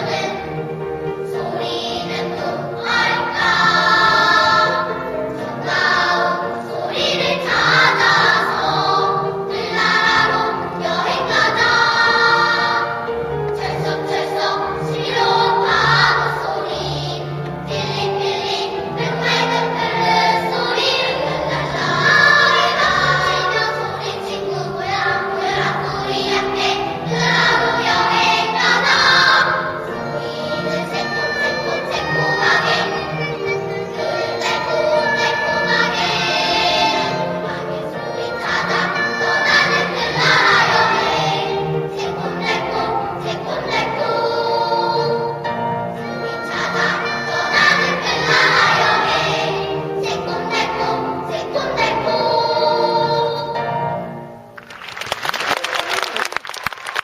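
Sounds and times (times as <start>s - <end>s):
children's choir singing: 0.0s - 54.5s
instrumental accompaniment: 0.0s - 55.1s.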